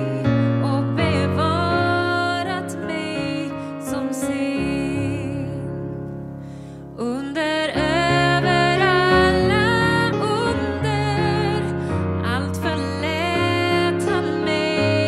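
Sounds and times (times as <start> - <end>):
woman singing a hymn: 0.0 - 5.8, 7.0 - 15.0
electronic keyboard piano chords: 0.0 - 15.0.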